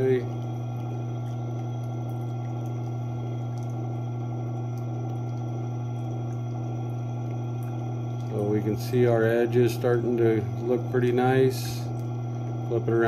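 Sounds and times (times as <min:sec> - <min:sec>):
sharpening machine motor hum: 0:00.0 - 0:13.0.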